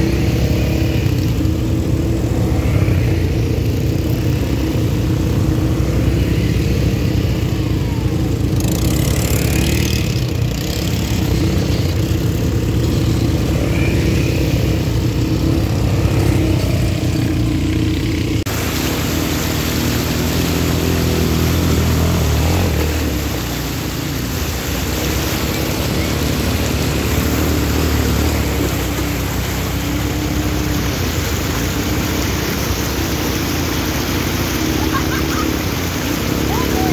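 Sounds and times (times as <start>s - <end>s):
quad bike engines revving: 0.0s - 36.9s
stream water rushing: 0.0s - 36.9s
water splashing: 0.0s - 36.9s.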